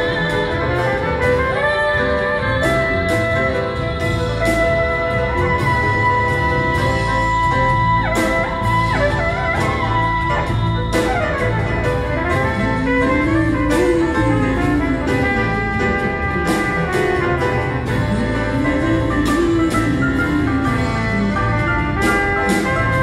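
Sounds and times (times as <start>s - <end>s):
woman singing: 0.0s - 8.9s, 10.0s - 17.3s, 17.9s - 23.0s
double bass: 0.0s - 23.0s
piano: 0.0s - 23.0s
trumpet: 0.0s - 23.0s.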